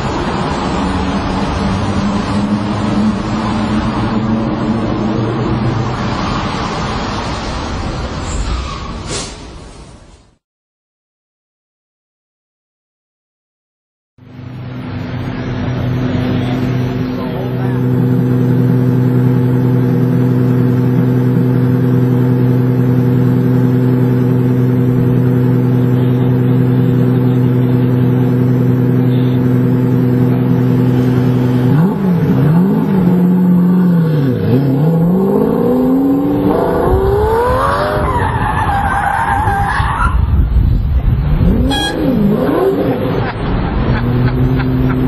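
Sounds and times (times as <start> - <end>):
car engine revving: 0.0 - 7.8, 14.4 - 39.3, 41.1 - 45.0.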